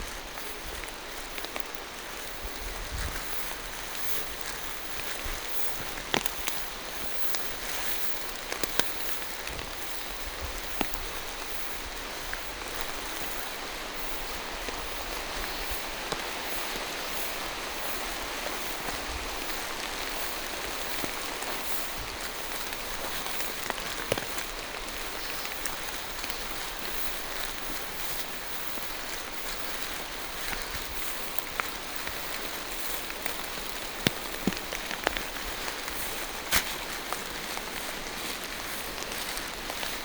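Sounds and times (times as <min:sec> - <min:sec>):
rain falling through trees: 0:00.0 - 0:40.0
sharp close rain taps: 0:00.1 - 0:40.0.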